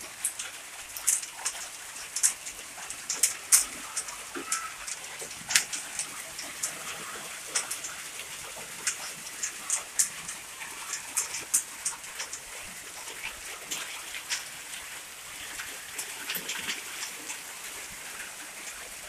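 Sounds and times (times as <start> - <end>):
hailstones clicking on hard surfaces: 0.0 - 19.0.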